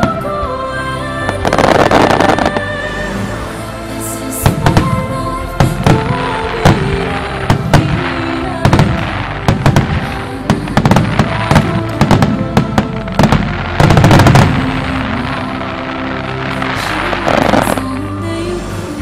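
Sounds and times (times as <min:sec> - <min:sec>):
music: 0:00.0 - 0:19.0
fireworks bursting: 0:01.3 - 0:03.2, 0:04.0 - 0:18.2.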